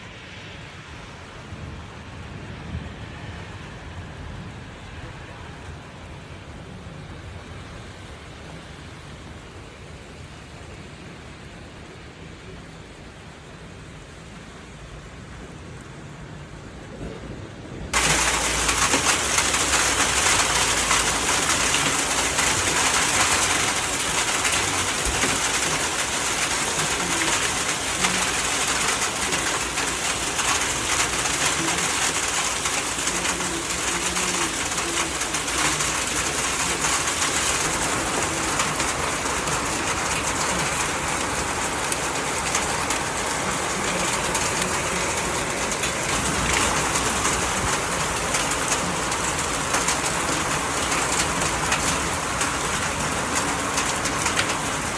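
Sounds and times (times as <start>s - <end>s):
hail and rain falling heavily: 0.0s - 54.9s.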